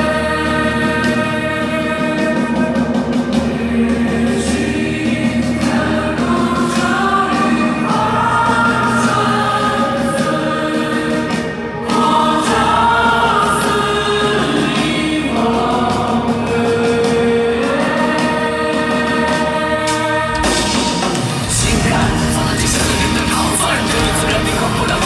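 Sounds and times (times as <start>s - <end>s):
live concert music through speakers: 0.0s - 25.0s.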